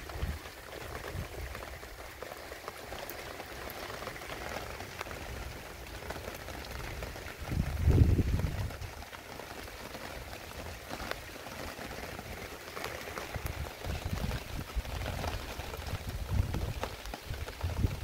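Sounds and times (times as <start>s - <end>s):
heavy rain pattering: 0.0s - 18.0s.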